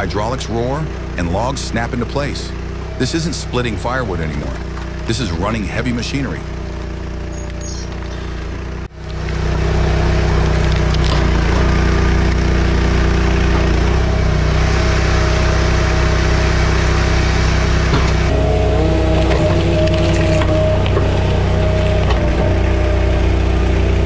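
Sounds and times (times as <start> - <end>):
engine running under load: 0.0 - 24.0.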